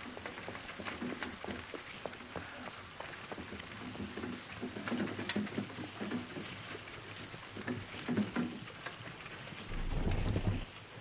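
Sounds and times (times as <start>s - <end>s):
soft tapping and crackling: 0.0s - 10.9s.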